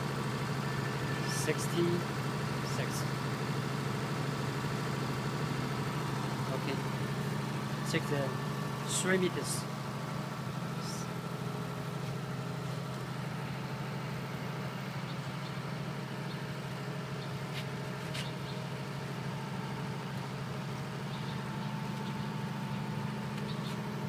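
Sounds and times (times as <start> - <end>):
diesel generator humming: 0.0 - 24.0.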